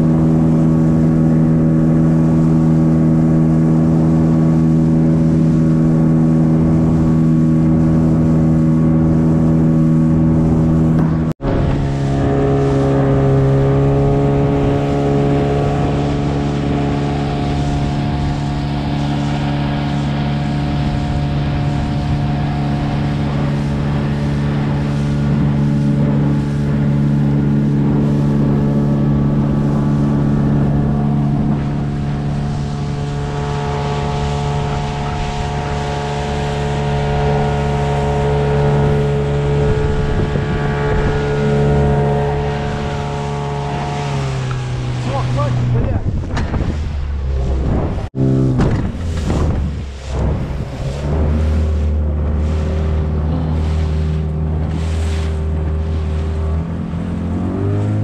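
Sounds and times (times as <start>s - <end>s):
outboard motor droning: 0.0s - 58.0s.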